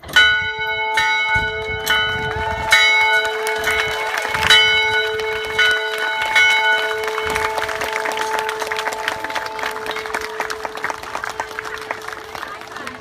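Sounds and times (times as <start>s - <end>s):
bell ringing: 0.0s - 12.4s.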